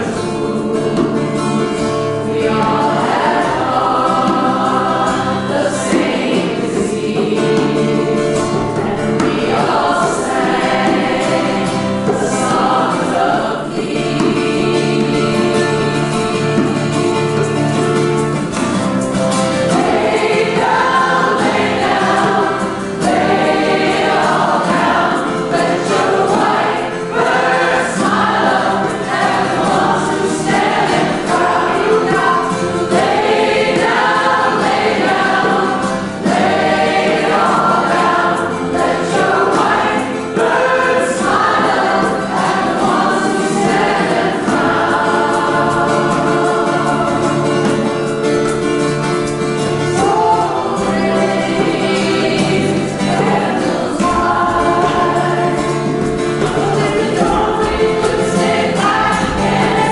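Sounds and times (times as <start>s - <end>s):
strummed acoustic guitar: 0.0s - 59.9s
women singing a hymn: 0.0s - 59.9s.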